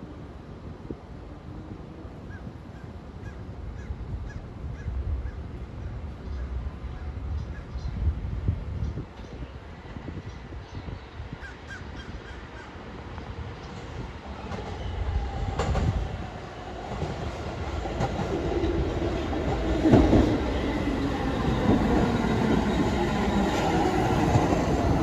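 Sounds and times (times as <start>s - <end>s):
subway train arriving: 0.0s - 11.4s, 12.3s - 25.0s.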